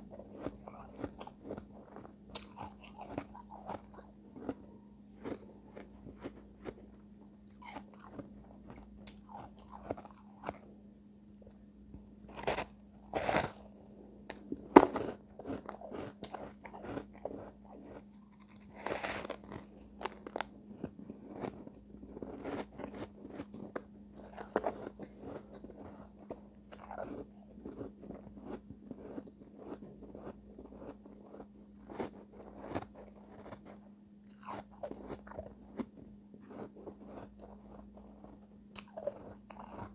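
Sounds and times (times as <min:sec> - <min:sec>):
ice being chewed: 0:00.0 - 0:10.7, 0:12.3 - 0:39.9.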